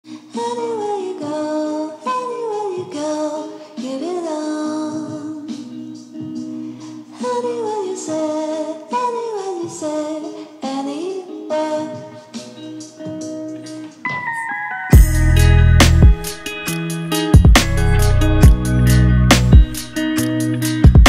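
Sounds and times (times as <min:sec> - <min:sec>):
song with sung melody: 0:00.1 - 0:21.0.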